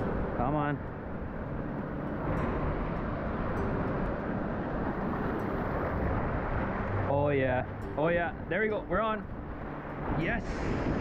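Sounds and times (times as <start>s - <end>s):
surf: 0.0s - 11.0s
wind: 0.0s - 11.0s.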